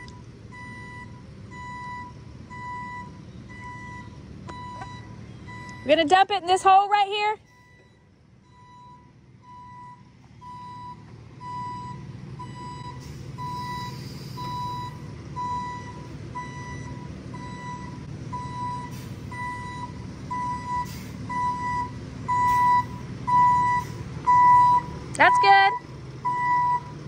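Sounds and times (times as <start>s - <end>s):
truck backup alarm beeping: 0.0s - 27.0s
truck engine rumble: 0.0s - 27.0s.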